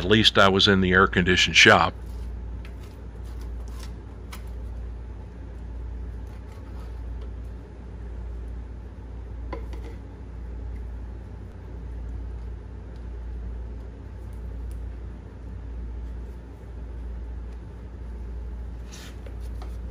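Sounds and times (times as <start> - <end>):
low hum: 0.0 - 19.9.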